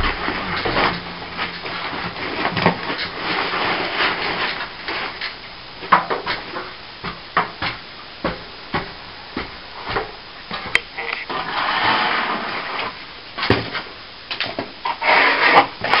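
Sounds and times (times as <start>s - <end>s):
plastering tool scraping wall: 0.0s - 7.9s, 8.7s - 13.9s, 14.8s - 16.0s.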